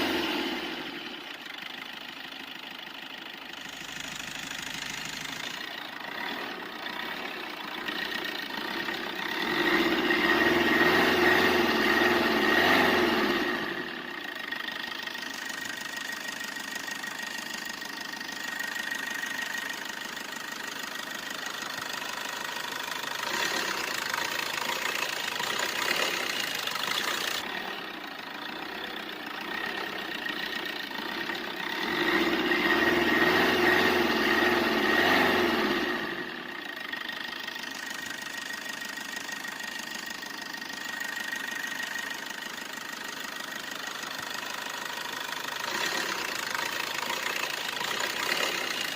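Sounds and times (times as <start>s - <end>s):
engine idling and revving: 0.0s - 48.9s.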